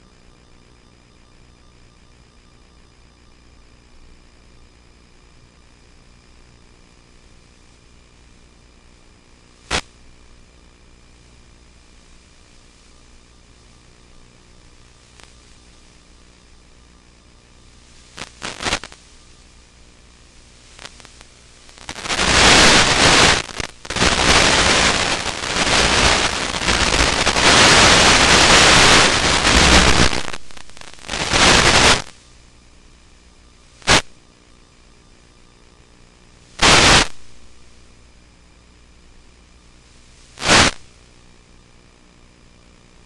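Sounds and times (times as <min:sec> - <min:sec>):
radio static hiss and crackle: 0:00.0 - 0:43.0.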